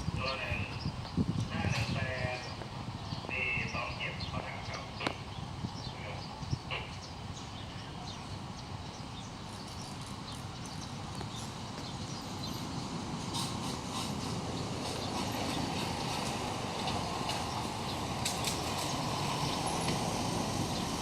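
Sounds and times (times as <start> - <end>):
diesel locomotive engine: 0.0 - 21.0.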